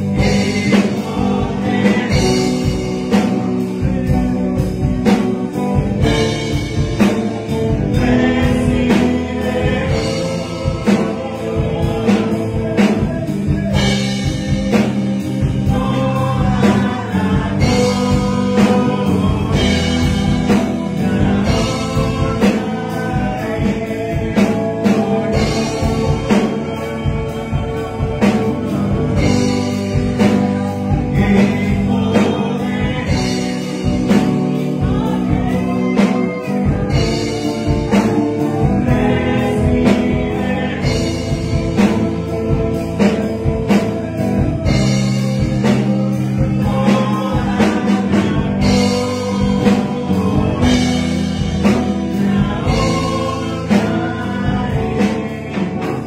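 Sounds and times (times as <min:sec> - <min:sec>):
instrumental backing with drum beat: 0:00.0 - 0:56.0
man singing into a microphone: 0:00.0 - 0:56.0.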